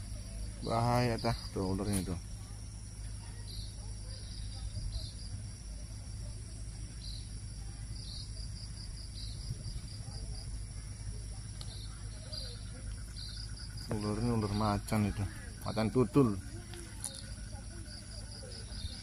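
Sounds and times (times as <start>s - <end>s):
insects droning: 0.0s - 19.0s
low steady rumble: 0.0s - 19.0s.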